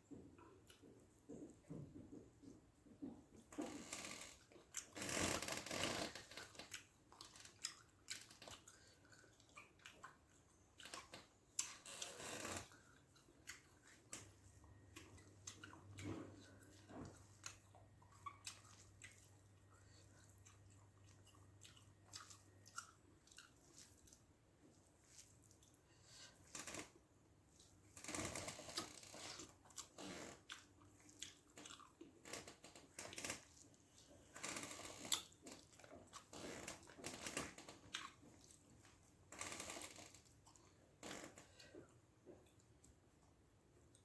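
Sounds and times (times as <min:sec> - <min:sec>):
wet chewing and smacking: 0:00.1 - 0:44.0.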